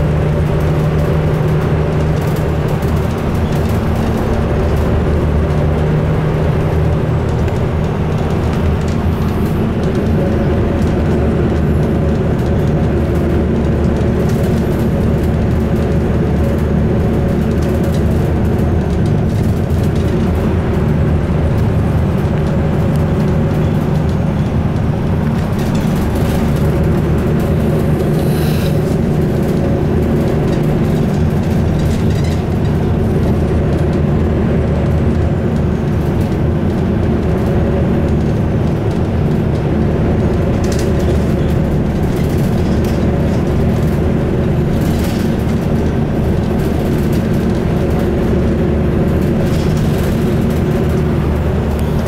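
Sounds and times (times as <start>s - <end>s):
bus engine and road rumble: 0.0s - 52.0s.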